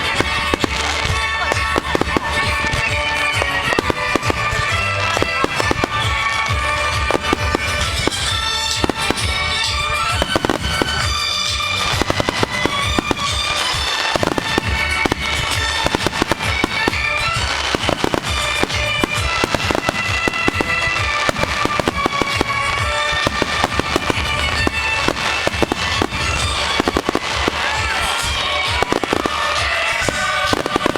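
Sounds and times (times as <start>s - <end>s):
fireworks bursting and crackling: 0.0s - 30.9s
music with held notes: 0.0s - 30.9s.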